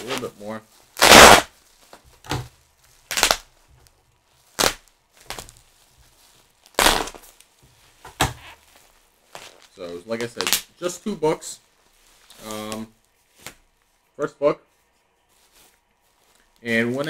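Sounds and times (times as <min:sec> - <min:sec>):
cardboard and plastic wrap crackling: 0:00.0 - 0:14.1, 0:15.1 - 0:17.0.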